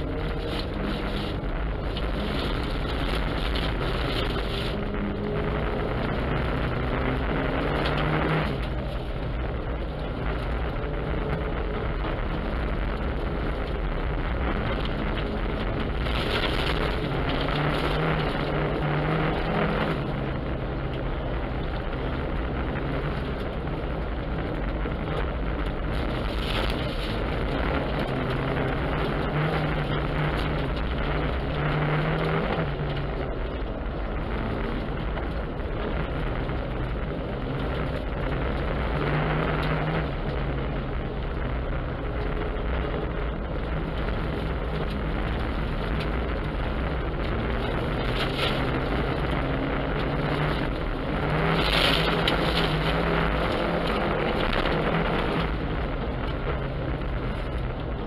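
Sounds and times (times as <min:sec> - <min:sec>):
broad rushing noise: 0:00.0 - 0:58.0
car engine running: 0:00.0 - 0:58.0.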